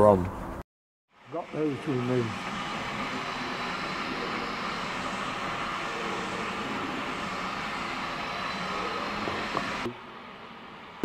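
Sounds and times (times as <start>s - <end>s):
low hum: 1.2s - 11.0s.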